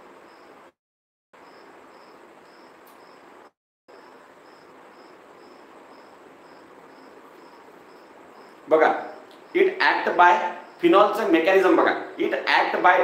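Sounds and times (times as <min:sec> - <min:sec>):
cricket chirping: 0:00.0 - 0:00.8, 0:01.4 - 0:11.8
room noise hiss: 0:00.0 - 0:00.8, 0:01.4 - 0:13.0.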